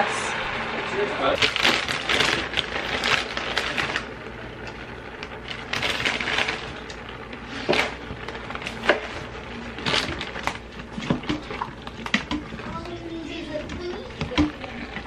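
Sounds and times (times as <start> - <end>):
plastic bag crinkling: 1.4 - 15.0.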